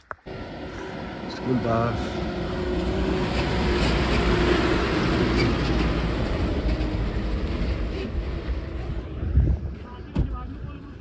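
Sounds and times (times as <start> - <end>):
road noise: 0.0 - 11.0
bus engine rumbling past: 0.3 - 10.1.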